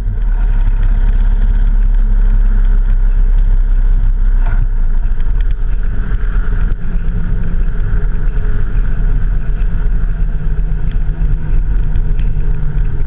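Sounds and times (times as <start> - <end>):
vehicle engine running: 0.0 - 13.0
wind and road noise: 0.0 - 13.0.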